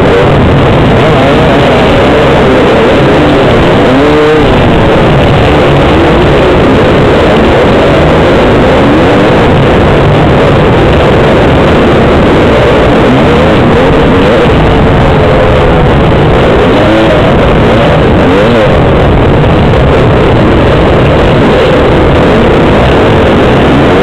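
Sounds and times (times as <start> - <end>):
dirt bike engine revving: 0.0 - 24.0
other dirt bike engines: 0.0 - 24.0.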